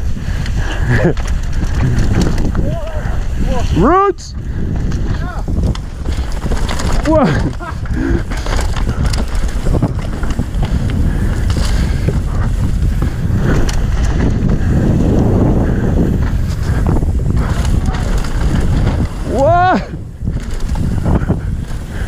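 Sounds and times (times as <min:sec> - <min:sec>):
bike knocks and rattles: 0:00.0 - 0:03.6, 0:04.4 - 0:22.0
tyres rumbling on dirt trail: 0:00.0 - 0:22.0
wind buffeting microphone: 0:00.0 - 0:22.0.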